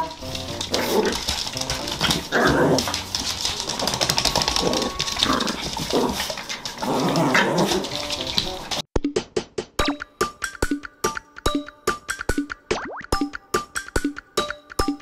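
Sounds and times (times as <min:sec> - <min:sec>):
light plucked music: 0:00.0 - 0:03.6, 0:04.2 - 0:08.8, 0:09.8 - 0:15.0.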